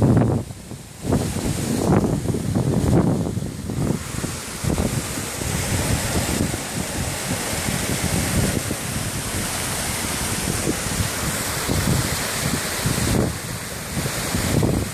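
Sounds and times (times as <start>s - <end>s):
heavy rain: 0.0s - 14.9s
wind buffeting microphone: 0.0s - 14.9s.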